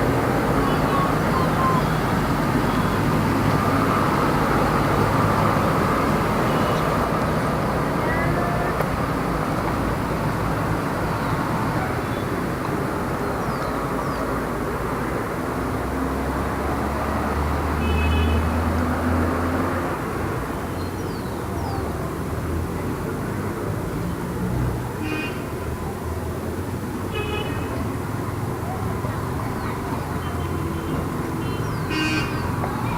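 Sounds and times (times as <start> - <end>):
cars passing: 0.0 - 32.9.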